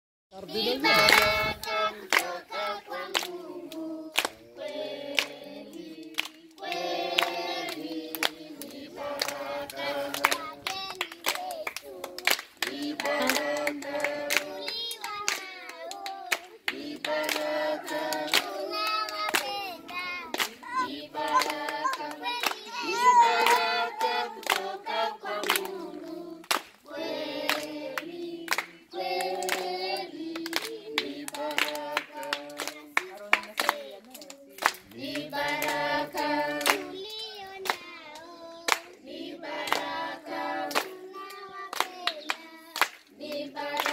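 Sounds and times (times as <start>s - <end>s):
children and adults singing: 0.4s - 43.9s
hand clapping: 0.9s - 4.4s, 5.1s - 26.8s, 27.4s - 39.0s, 39.6s - 39.9s, 40.7s - 43.9s.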